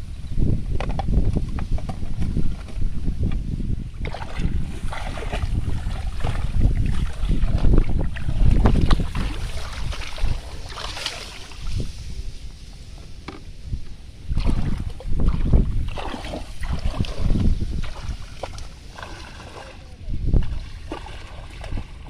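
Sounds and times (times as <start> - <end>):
wind buffeting microphone: 0.0 - 22.0
water splashing and sloshing: 0.8 - 22.0.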